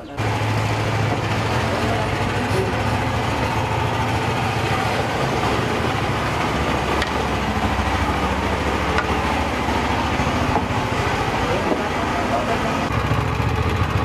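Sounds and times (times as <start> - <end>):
boat engine pulsing: 0.0 - 14.0.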